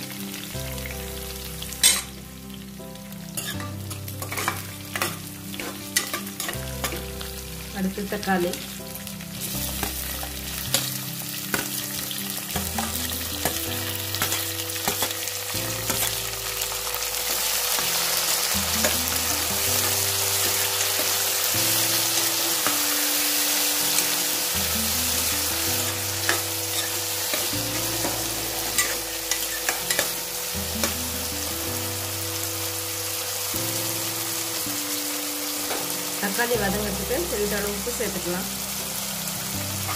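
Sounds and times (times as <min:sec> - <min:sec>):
tomatoes sizzling in oil: 0:00.0 - 0:39.9.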